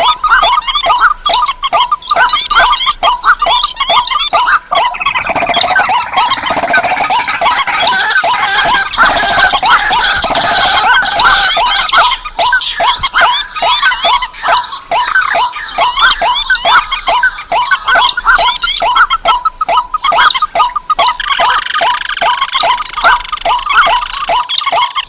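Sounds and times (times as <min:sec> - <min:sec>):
swamp bird calls: 0:00.0 - 0:25.0.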